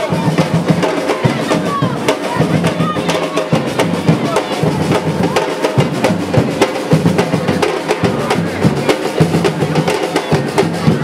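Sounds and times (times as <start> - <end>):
drum band playing: 0.0 - 11.0.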